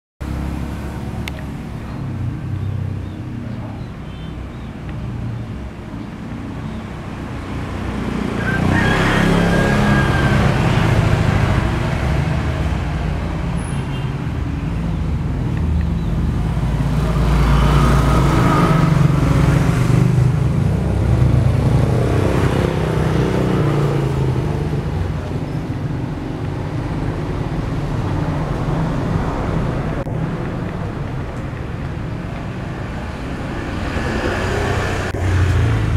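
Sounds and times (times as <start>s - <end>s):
road traffic rumbling: 0.2s - 35.9s
vehicles passing: 0.2s - 35.9s.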